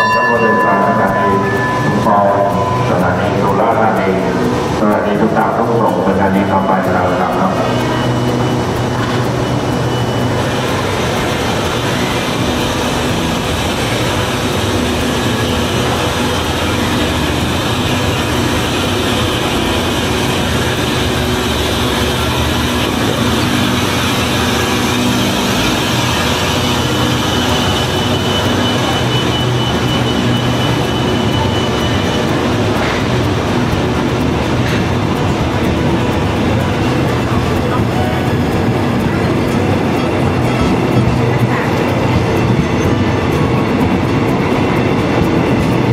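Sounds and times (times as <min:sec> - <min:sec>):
diesel train rumbling: 0:00.0 - 0:45.9
thin high whine: 0:00.0 - 0:45.9.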